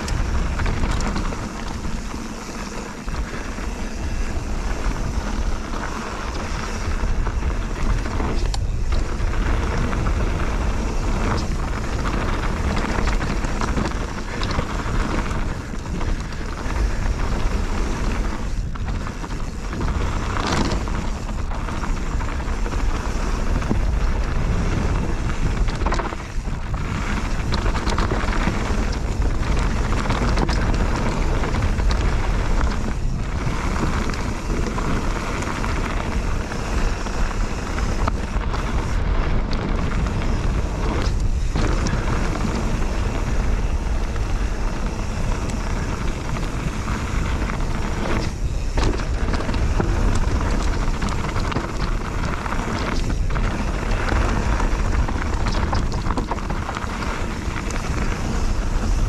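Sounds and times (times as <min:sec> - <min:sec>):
bike rattling: 0:00.0 - 0:59.0
bike tyres rolling on trail: 0:00.0 - 0:59.0
wind rumble on microphone: 0:00.0 - 0:59.0.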